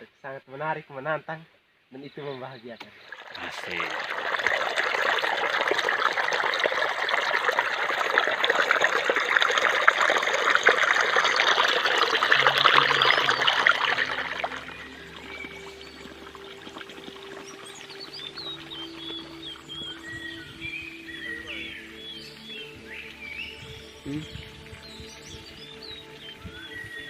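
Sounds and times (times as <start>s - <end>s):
running water splashing: 2.8s - 27.0s.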